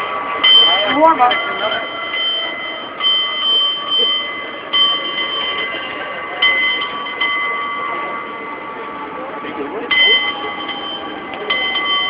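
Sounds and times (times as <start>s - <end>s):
bell ringing: 0.0s - 9.0s, 9.8s - 12.0s.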